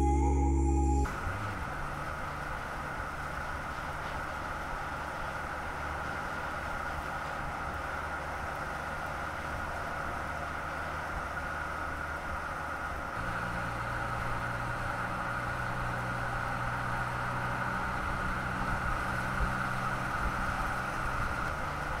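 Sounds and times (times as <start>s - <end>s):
tyres rolling on asphalt: 1.1s - 22.0s.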